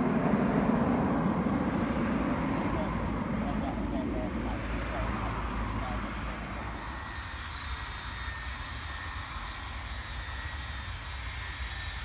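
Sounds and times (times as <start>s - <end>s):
faint high whine: 0.0s - 12.0s
jet engines rumbling: 0.0s - 12.0s.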